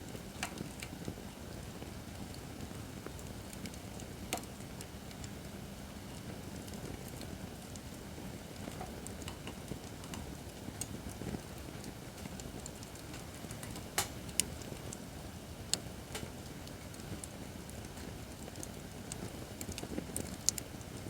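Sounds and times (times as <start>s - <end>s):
fire flames rumbling: 0.0s - 21.0s
firewood crackling and popping: 0.0s - 21.0s.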